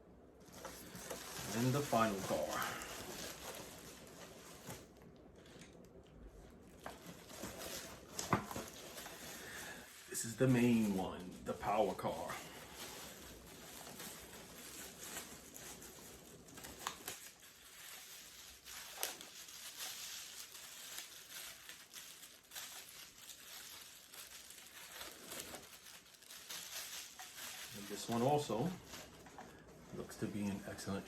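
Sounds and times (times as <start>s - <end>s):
plastic bag crinkling: 0.4s - 31.0s.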